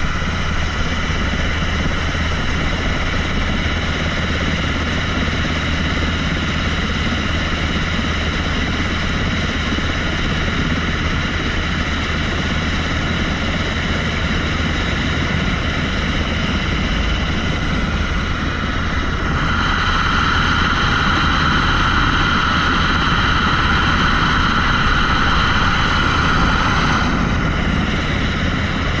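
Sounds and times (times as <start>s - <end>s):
helicopter rotor hum: 0.0s - 29.0s
helicopter turbine whine: 0.0s - 29.0s.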